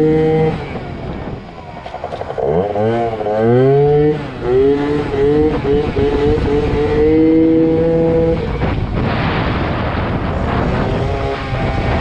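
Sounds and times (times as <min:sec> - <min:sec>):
scooter engine at high revs: 0:00.0 - 0:12.0.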